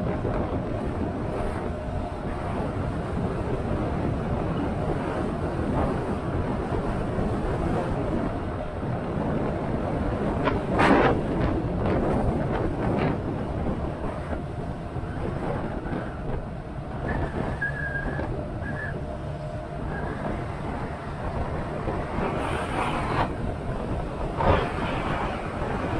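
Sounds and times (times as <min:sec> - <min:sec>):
wind rushing across microphone: 0:00.0 - 0:25.9.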